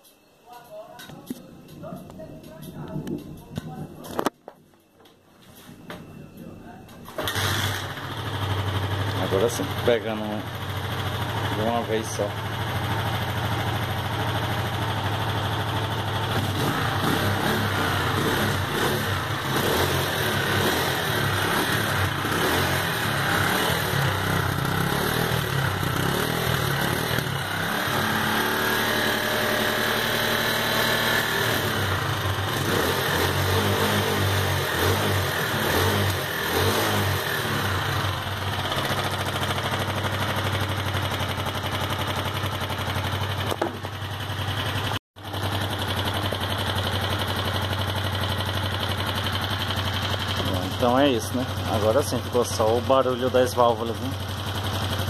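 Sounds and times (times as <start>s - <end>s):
motorcycle engine revving: 6.5s - 55.0s.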